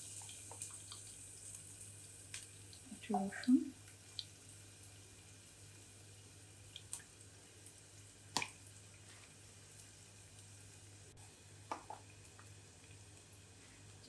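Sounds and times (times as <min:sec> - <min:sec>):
onions frying in oil: 0:00.0 - 0:14.0.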